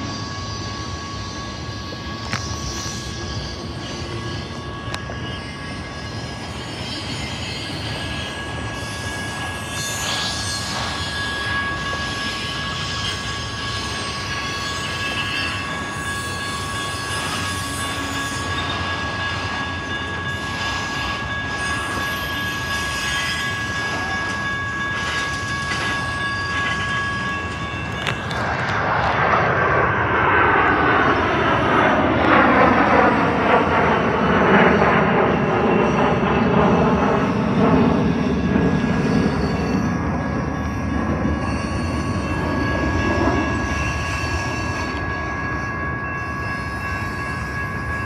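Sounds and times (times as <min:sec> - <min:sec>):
train wheels rumbling on rail: 0:00.0 - 0:29.4, 0:30.3 - 0:48.0
high-pitched wheel squeal: 0:00.0 - 0:48.0.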